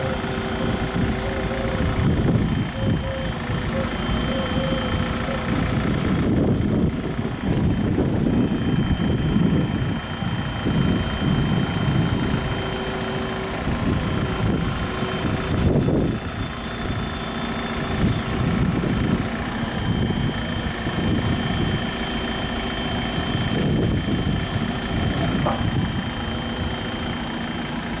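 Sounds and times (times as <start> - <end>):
backhoe arm operating: 0.0 - 28.0
diesel engine running: 0.0 - 28.0.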